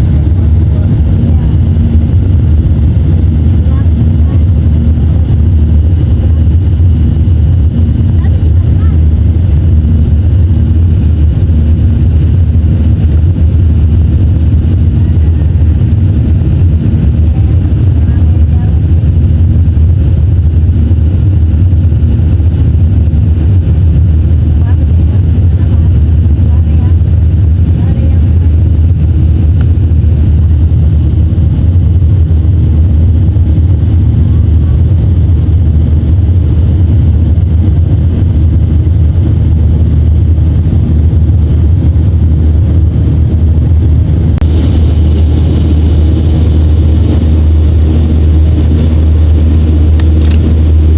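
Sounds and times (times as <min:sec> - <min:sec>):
airplane cabin engine rumble: 0:00.0 - 0:50.9.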